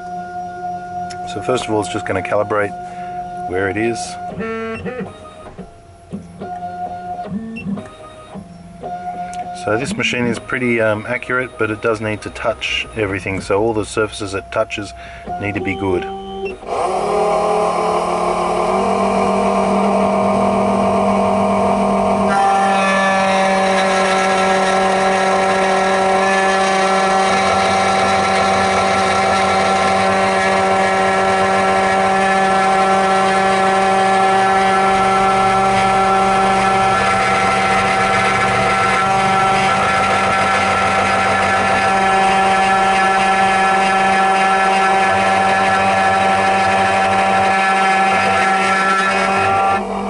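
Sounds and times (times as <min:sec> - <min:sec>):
key cutting machine whining: 0:00.0 - 0:50.0.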